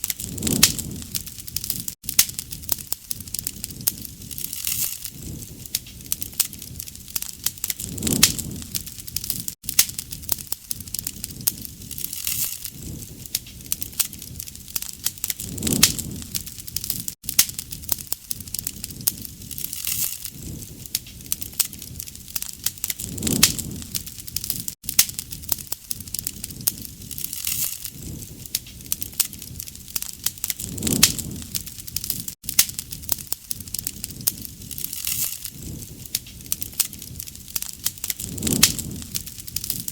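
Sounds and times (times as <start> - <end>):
campfire crackling and popping: 0.0 - 39.9
soft fire hiss: 0.0 - 39.9.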